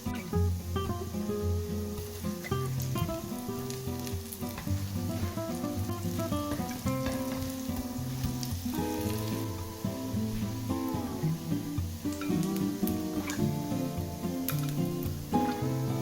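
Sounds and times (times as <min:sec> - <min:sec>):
guitar music: 0:00.0 - 0:16.0
patties sizzling in oil: 0:00.0 - 0:16.0.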